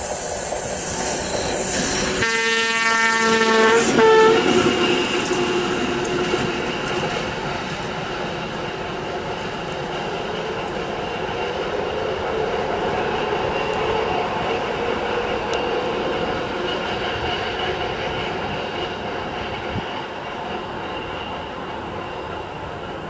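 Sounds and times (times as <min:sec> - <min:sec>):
diesel locomotive engine: 0:00.0 - 0:23.0
wheels rumbling on rail: 0:00.0 - 0:23.0.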